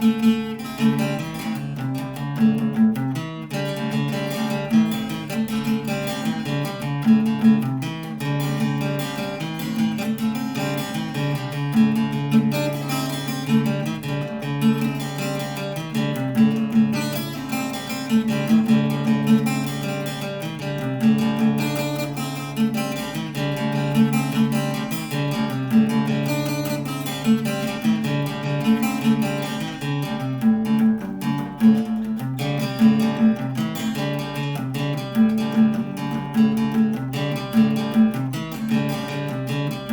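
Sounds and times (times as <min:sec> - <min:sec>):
instrumental guitar music: 0:00.0 - 0:39.9.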